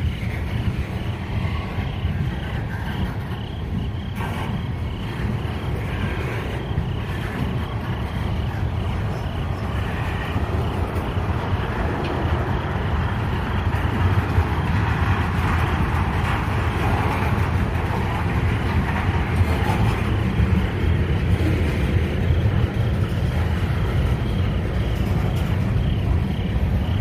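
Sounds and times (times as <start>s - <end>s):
freight train rolling on rails: 0.0s - 27.0s.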